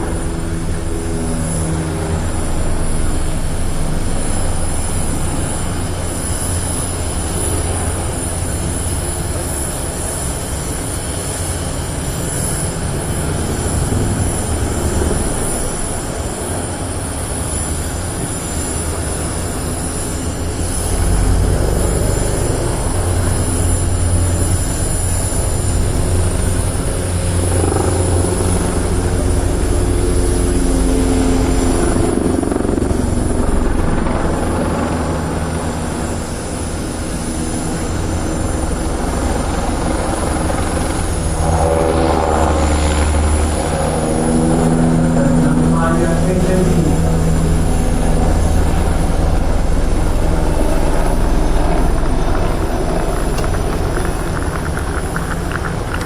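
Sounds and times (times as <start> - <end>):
helicopter flying: 0.0 - 56.0.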